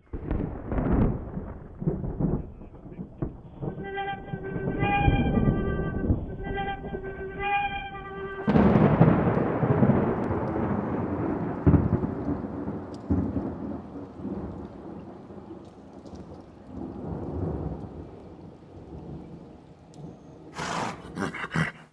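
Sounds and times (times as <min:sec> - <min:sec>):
thunder rumbling: 0:00.0 - 0:21.5.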